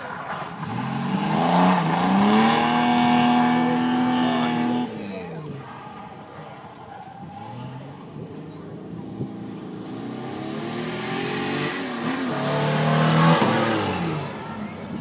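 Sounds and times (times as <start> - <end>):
car engine revving: 0.0 - 5.5, 7.0 - 15.0.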